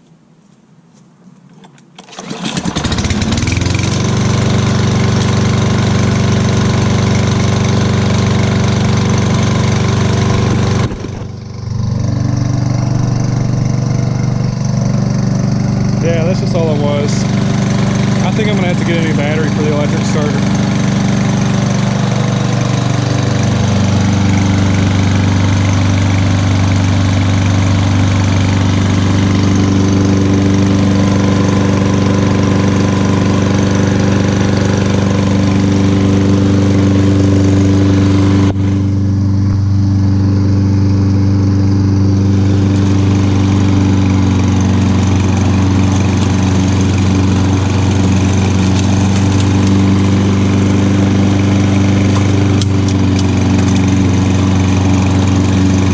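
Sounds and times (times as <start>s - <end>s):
lawn mower engine running: 1.6s - 55.9s.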